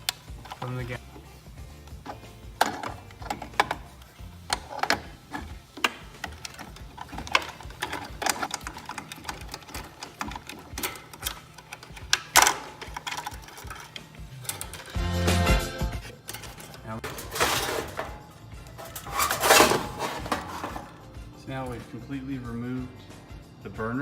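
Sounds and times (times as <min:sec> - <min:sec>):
hand tools clicking on metal: 0:00.0 - 0:01.4, 0:02.0 - 0:15.0, 0:16.0 - 0:21.0.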